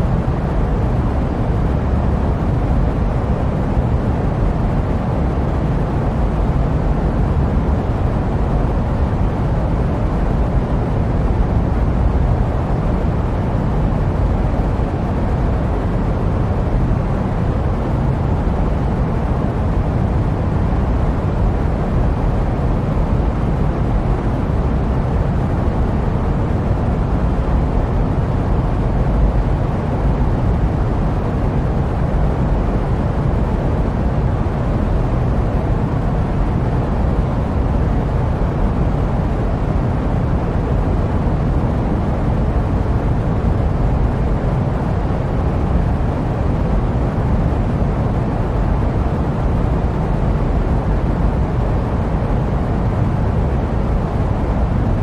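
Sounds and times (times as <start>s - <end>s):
jet aircraft noise deep hiss: 0.0s - 55.0s.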